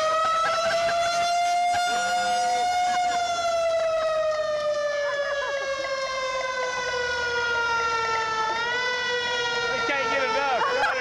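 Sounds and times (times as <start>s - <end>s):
fire engine siren wailing: 0.0s - 11.0s.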